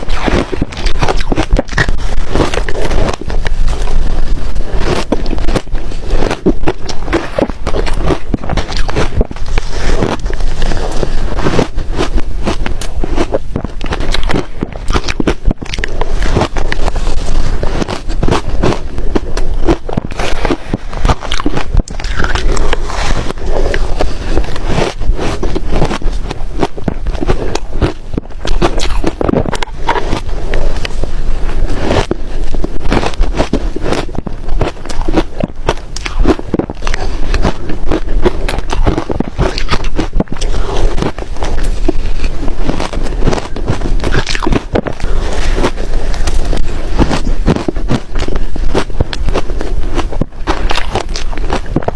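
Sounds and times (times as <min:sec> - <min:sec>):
ice being chewed: 0:00.0 - 0:51.9.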